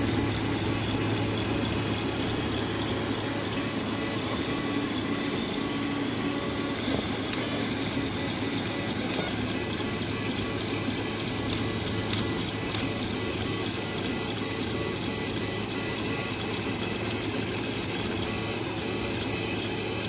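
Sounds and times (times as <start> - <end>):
printer fan hiss: 0.0 - 20.0
stepper motors whirring: 0.0 - 20.0.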